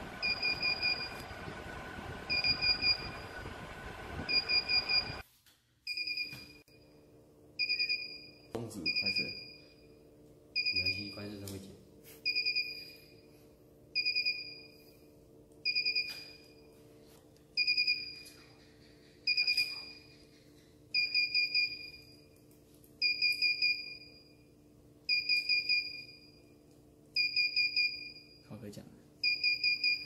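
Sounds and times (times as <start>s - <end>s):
fan and water pump hum: 0.0s - 5.2s, 10.2s - 30.0s.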